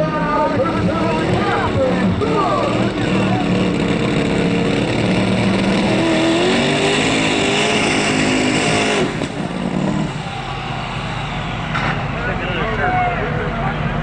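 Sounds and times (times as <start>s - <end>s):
tractor engine revving hard: 0.0s - 14.0s.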